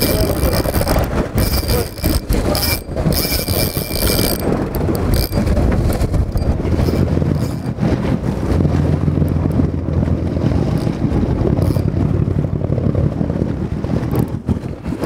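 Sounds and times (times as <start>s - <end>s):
boat engine low rumble: 0.0s - 15.0s
wind buffeting microphone: 0.0s - 15.0s.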